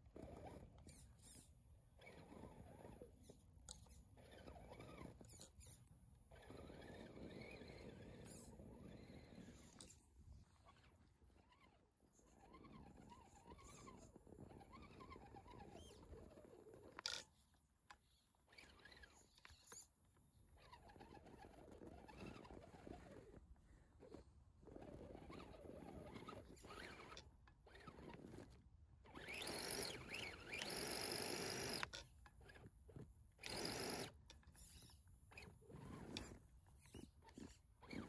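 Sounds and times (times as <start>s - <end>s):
small electric motor whining: 0.2s - 19.9s, 24.0s - 38.0s.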